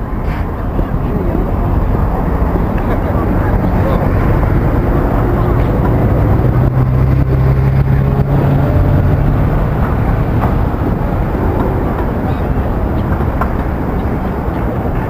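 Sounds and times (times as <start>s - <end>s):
low outdoor rumble: 0.0s - 15.0s
vehicle engine humming: 0.0s - 15.0s.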